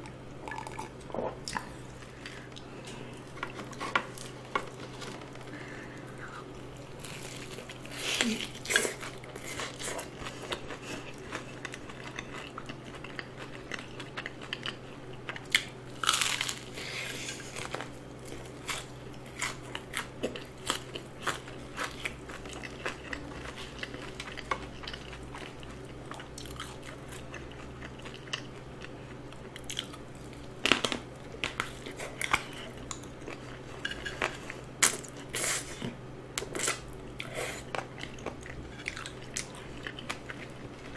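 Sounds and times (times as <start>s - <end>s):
crunching fried chicken: 1.6s - 35.4s.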